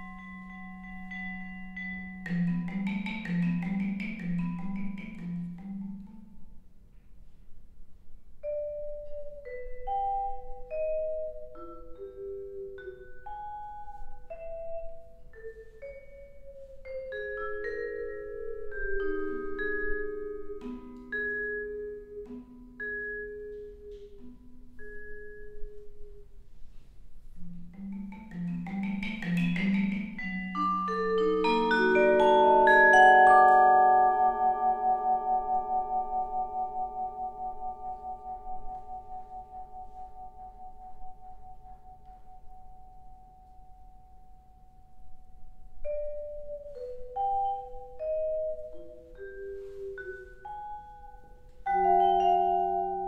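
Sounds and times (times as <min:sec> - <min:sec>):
vibraphone played with mallets: 0:00.0 - 0:06.6, 0:08.4 - 0:26.3, 0:27.3 - 0:53.0.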